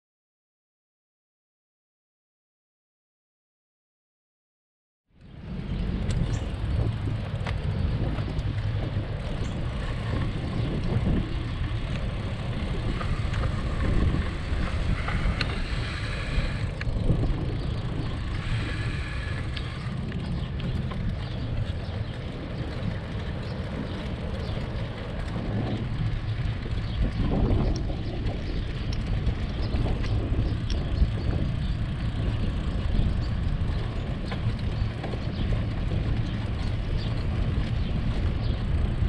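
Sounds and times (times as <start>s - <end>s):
road noise: 5.1s - 39.0s
wind buffeting microphone: 5.2s - 39.0s.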